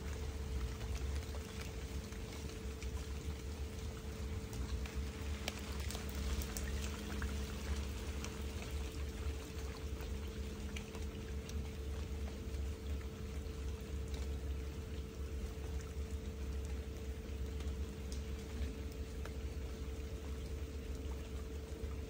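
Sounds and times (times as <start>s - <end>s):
rain falling: 0.0s - 21.9s
faint steady hum: 0.0s - 22.0s.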